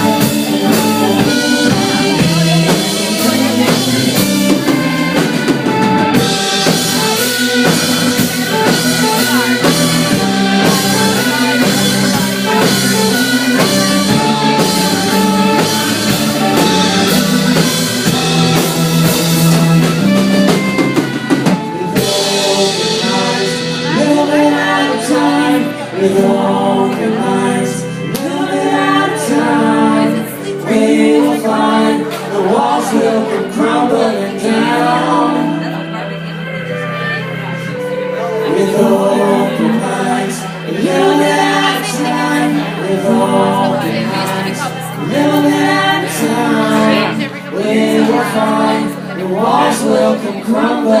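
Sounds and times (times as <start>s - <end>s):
band music with drum kit: 0.0s - 51.0s.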